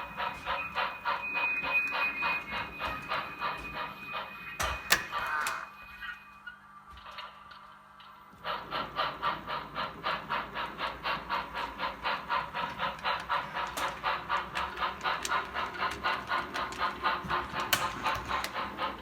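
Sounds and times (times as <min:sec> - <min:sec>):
model steam locomotive chuffing: 0:00.0 - 0:06.2, 0:07.0 - 0:19.0.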